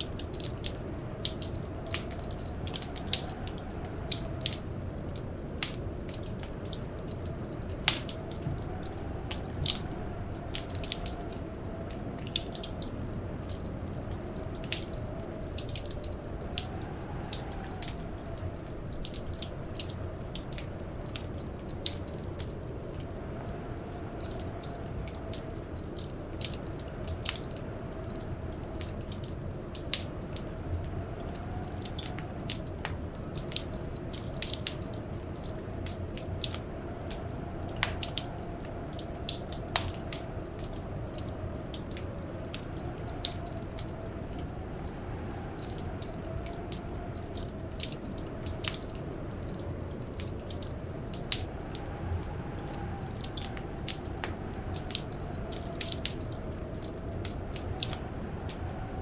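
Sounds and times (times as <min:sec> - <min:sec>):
faint blizzard wind: 0:00.0 - 0:59.0
wood fire crackling: 0:00.0 - 0:59.0.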